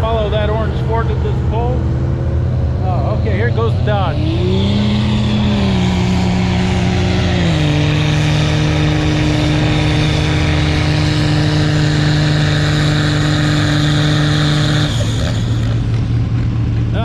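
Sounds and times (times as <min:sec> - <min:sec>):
diesel truck engine under full load: 0:00.0 - 0:17.0.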